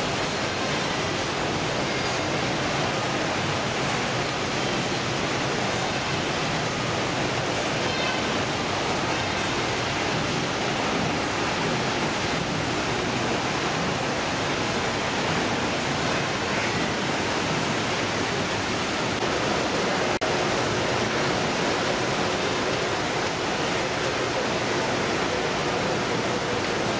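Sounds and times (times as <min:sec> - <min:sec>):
conveyor machinery: 0:00.0 - 0:26.9
running water: 0:00.0 - 0:26.9.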